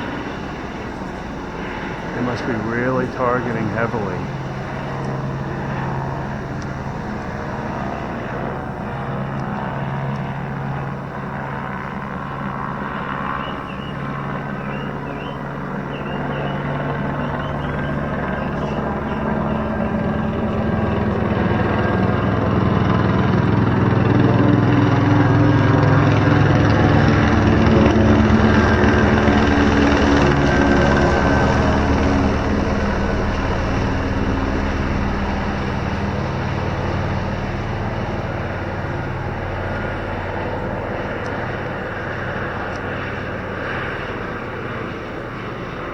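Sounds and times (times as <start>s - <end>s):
helicopter flying: 0.0s - 45.9s.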